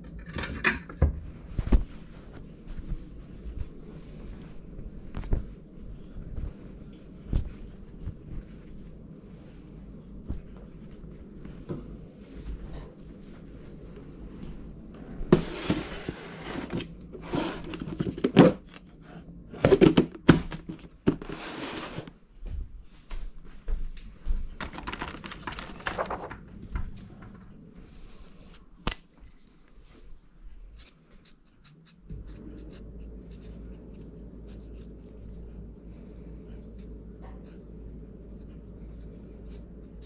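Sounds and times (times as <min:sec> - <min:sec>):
rustling and scraping items: 0:00.0 - 0:22.3, 0:24.3 - 0:37.7
low steady hum: 0:00.0 - 0:40.0.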